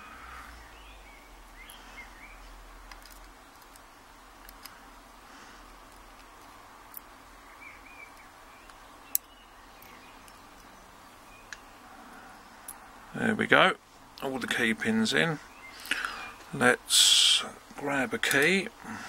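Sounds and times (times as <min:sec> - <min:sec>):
low background hiss: 0:00.0 - 0:19.0.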